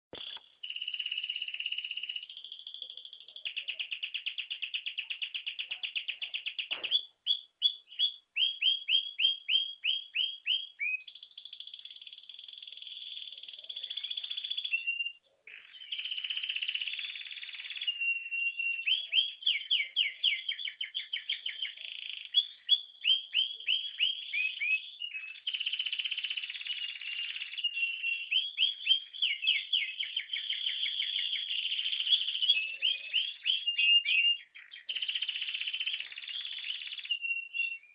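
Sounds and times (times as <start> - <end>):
canary singing trills: 0.1 - 37.9.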